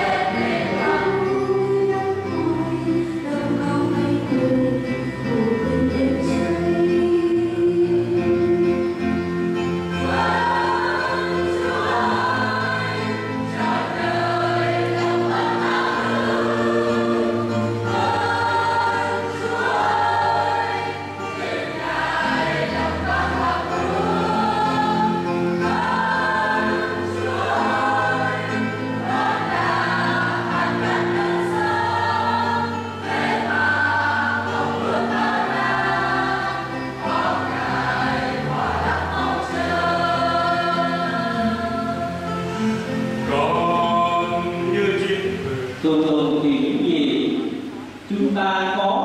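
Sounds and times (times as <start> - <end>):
choir singing a hymn: 0.0 - 48.1.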